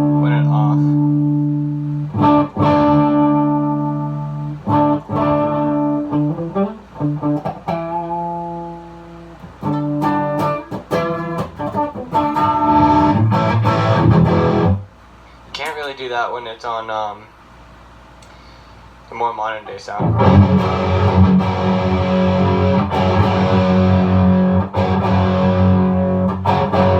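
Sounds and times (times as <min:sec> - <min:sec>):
overdriven electric guitar chords: 0:00.0 - 0:14.9, 0:20.0 - 0:26.9.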